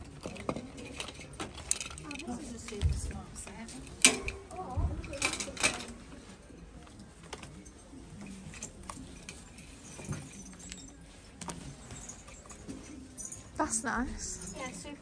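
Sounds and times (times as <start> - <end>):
goods clinking in wire trolley: 0.0 - 15.0.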